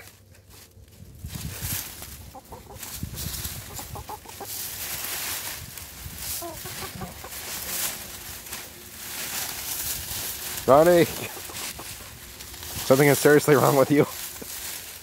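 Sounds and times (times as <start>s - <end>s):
dry leaves rustling and crackling: 0.0s - 15.0s
chickens clucking: 0.7s - 15.0s.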